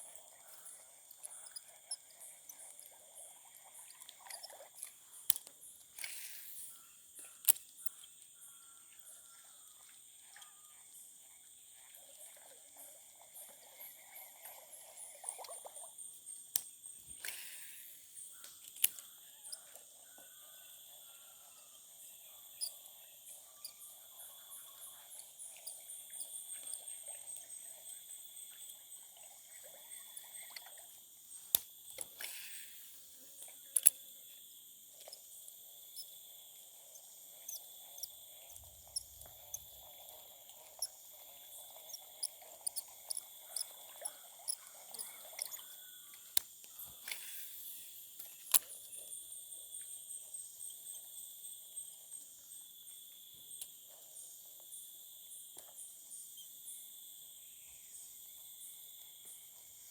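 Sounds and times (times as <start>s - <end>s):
crickets and insects trilling: 0.0s - 59.9s.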